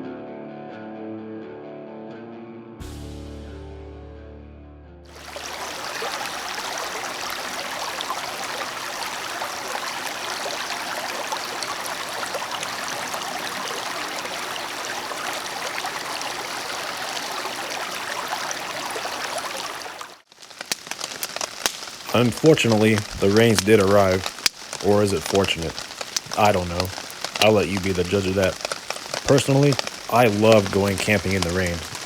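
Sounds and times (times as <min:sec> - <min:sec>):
heavy rain falling: 0:05.1 - 0:32.0.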